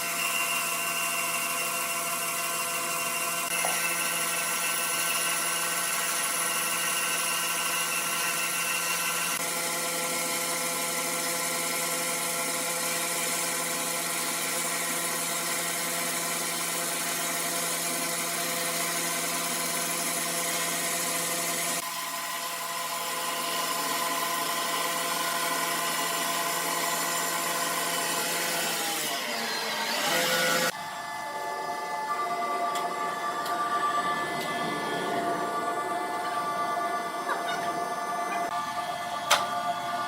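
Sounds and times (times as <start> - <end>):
saw cutting timber with whine: 0.0 - 40.0.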